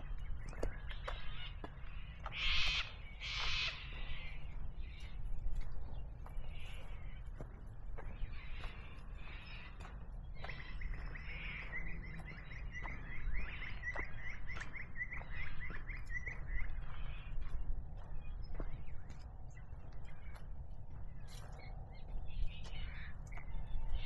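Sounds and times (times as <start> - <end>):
birds calling: 0.0 - 24.0
steady low rumble: 0.0 - 24.0.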